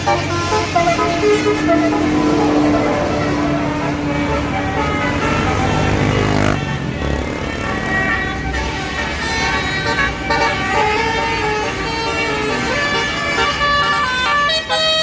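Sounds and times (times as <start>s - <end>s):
multi-tone bus horn tune: 0.0s - 15.0s
road traffic rumble: 0.0s - 15.0s.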